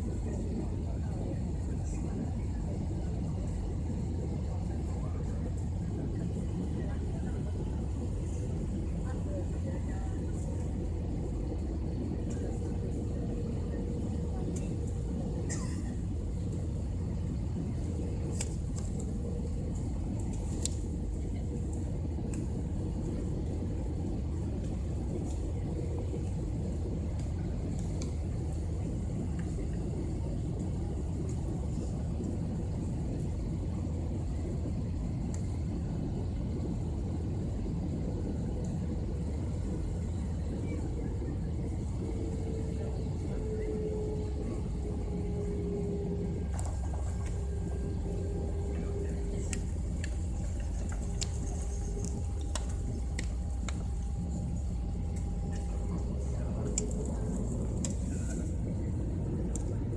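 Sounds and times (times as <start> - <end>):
faint steady whine: 0.0 - 59.9
jet engine and air rumble: 0.0 - 59.9.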